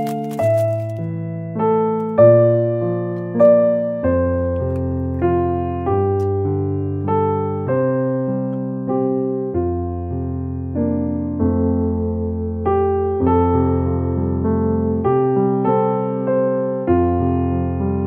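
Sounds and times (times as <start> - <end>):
mellow piano-like keyboard music: 0.0 - 18.0.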